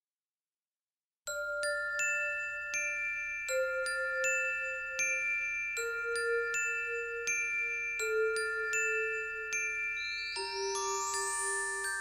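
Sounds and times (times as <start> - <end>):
bell-like chiming notes: 1.3 - 12.0.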